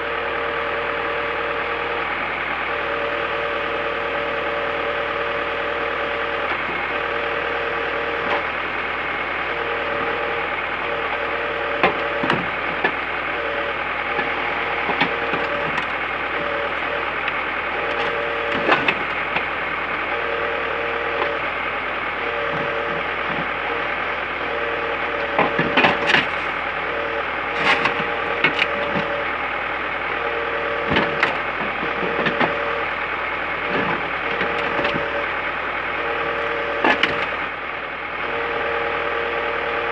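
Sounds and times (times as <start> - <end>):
crunching wood and metal: 0.0 - 37.7
crane hydraulics: 0.0 - 39.9
truck engine running: 0.0 - 39.9.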